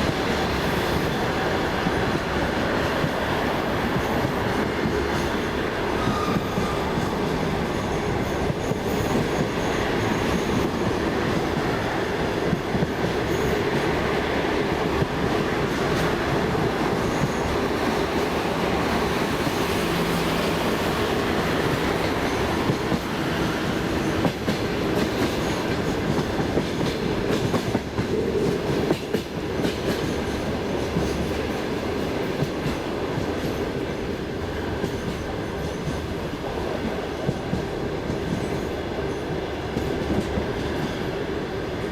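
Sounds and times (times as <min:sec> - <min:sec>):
train carriage rumble: 0:00.0 - 0:41.9.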